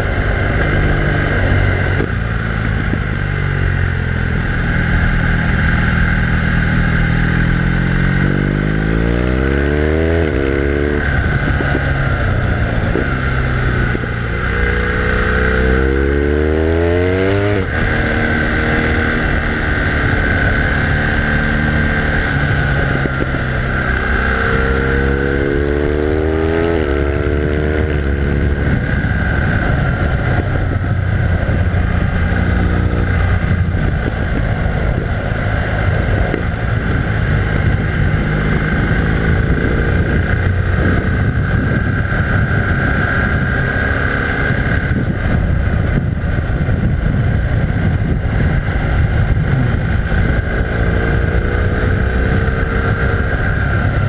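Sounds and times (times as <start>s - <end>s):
motorcycle engine revving: 0.0s - 54.0s
steady rushing noise: 0.0s - 54.0s.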